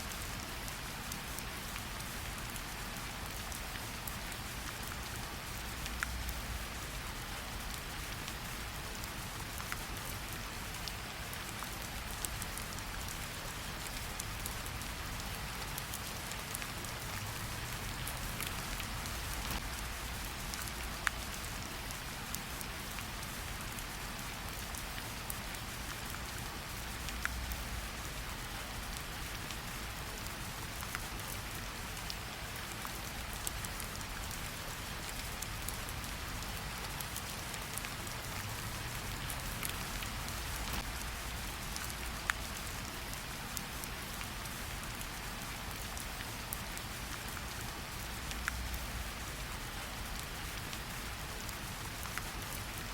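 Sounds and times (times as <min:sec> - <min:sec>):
rain on leaves: 0:00.0 - 0:52.9.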